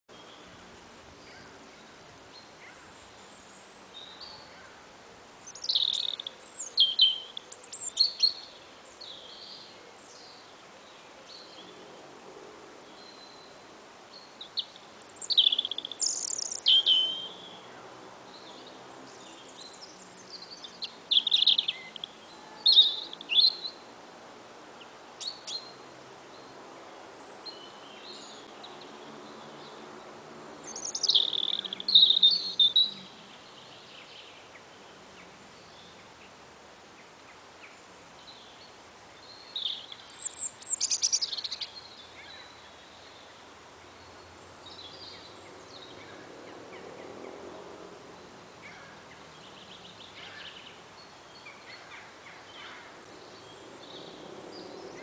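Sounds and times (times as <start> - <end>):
songbird singing: 0.1 - 55.0.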